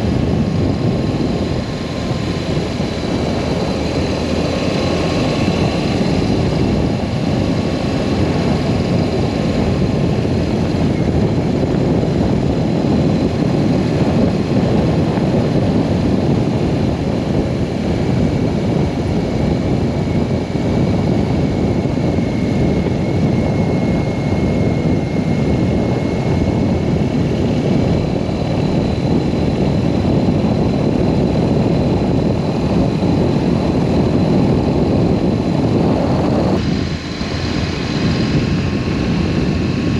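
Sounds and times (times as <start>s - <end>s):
motorcycle engine drone: 0.0s - 39.9s
wind rushing over microphone: 0.0s - 39.9s.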